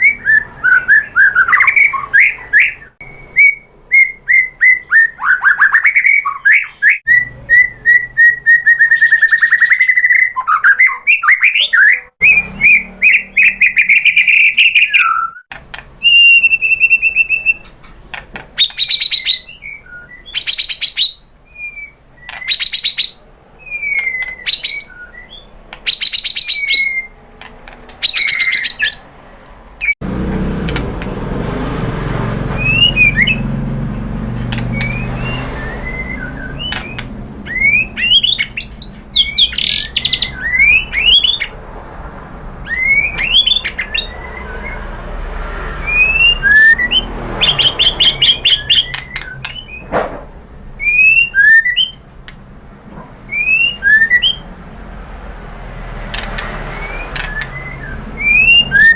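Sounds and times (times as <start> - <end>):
songbird singing whistles and trills: 0.0 - 18.0, 18.6 - 30.0, 32.5 - 33.6, 34.4 - 41.6, 42.6 - 49.9, 50.8 - 52.0, 53.3 - 54.5, 56.2 - 58.9.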